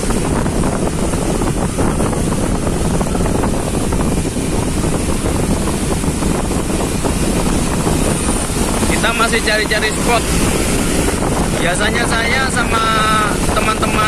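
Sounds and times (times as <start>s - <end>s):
traffic noise on wet road: 0.0s - 14.0s
wind buffeting microphone: 0.0s - 14.0s.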